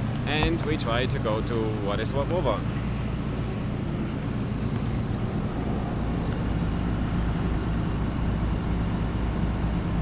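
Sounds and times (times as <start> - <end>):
boat diesel engine droning: 0.0 - 10.0
wind: 0.0 - 10.0.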